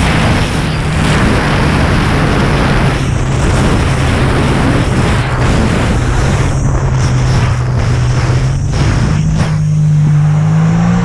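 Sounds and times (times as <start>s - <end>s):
wind buffeting microphone: 0.0s - 10.0s
jet ski engine drone: 0.0s - 11.0s.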